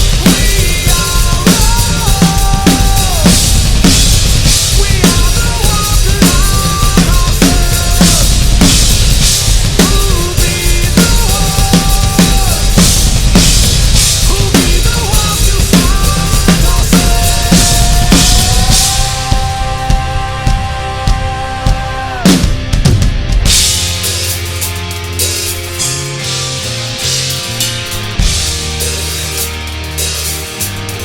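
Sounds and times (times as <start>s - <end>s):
drum kit playing: 0.0s - 31.0s
metal band music: 0.0s - 31.0s.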